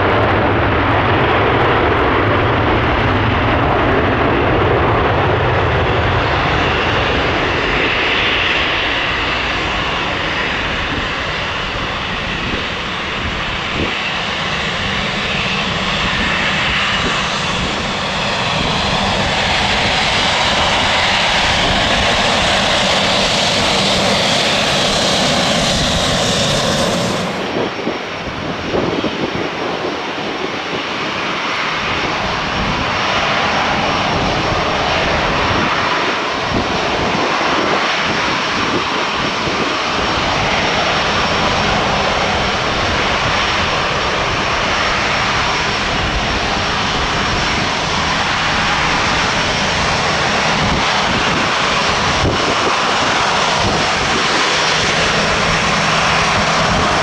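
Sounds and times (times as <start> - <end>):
jet engines rushing and whining: 0.0 - 57.0.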